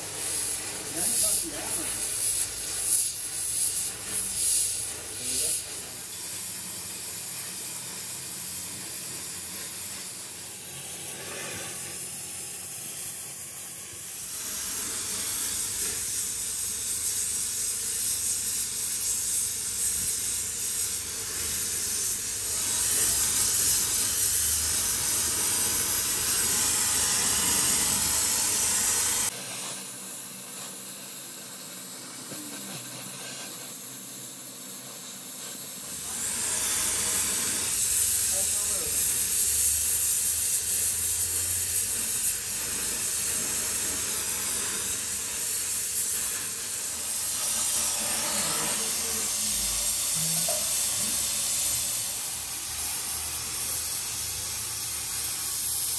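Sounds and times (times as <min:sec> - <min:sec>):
welding torch flame hissing: 0:00.0 - 0:55.9.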